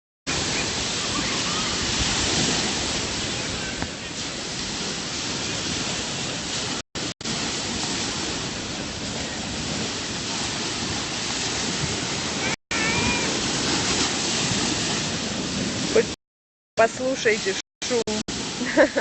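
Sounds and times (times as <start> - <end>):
sea surf on shore: 0.3 - 16.2, 16.8 - 19.0.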